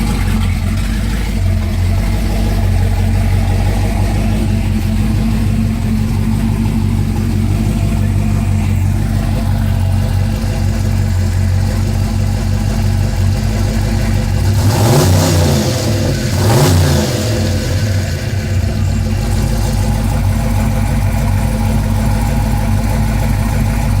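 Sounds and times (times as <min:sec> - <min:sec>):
truck engine idling and revving: 0:00.0 - 0:24.0.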